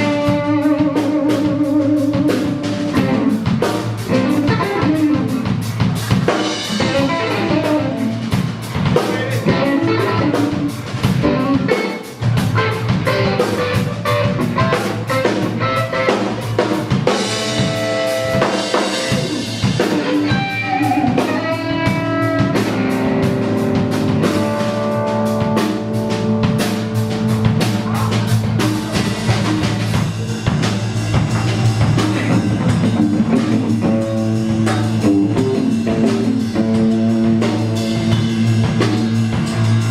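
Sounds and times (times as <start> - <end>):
electric guitar lead: 0.0 - 39.9
rock band playing: 0.0 - 39.9.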